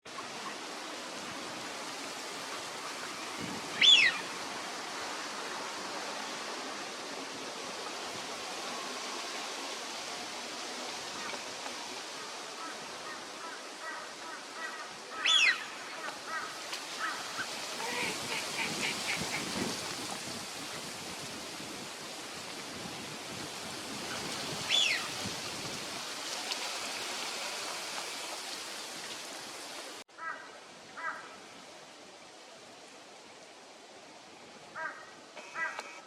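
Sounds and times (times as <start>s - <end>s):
steady hiss: 0.1s - 36.0s.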